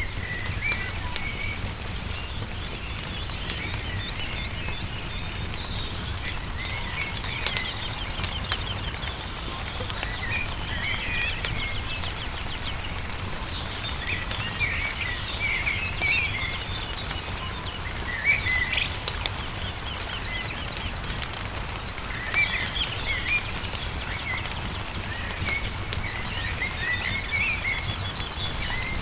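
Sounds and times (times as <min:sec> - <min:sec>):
songbirds chirping: 0:00.0 - 0:29.0
wood fire crackling: 0:00.0 - 0:29.0.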